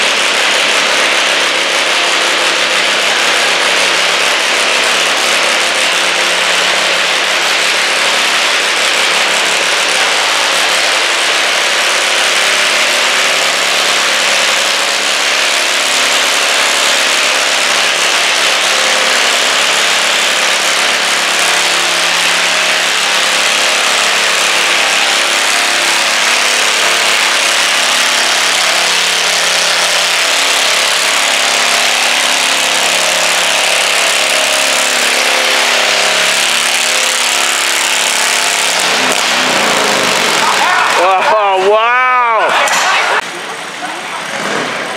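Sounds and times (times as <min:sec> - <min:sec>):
garden tractor engine under load: 0:00.0 - 0:44.9.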